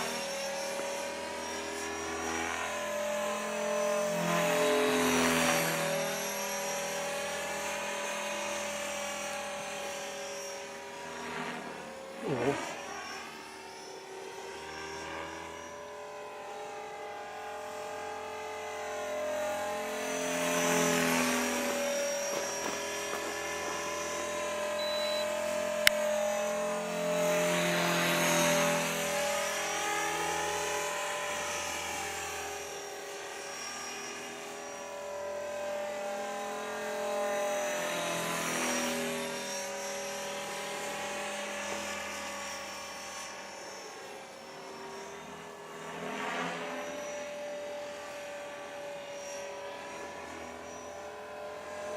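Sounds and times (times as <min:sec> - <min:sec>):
rc helicopter motor whine: 0:00.0 - 0:51.9.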